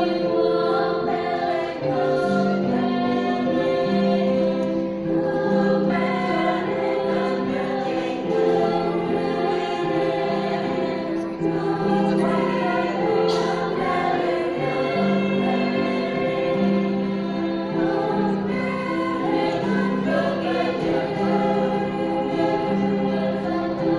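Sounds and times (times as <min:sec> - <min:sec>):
choir singing long held notes: 0:00.0 - 0:23.9.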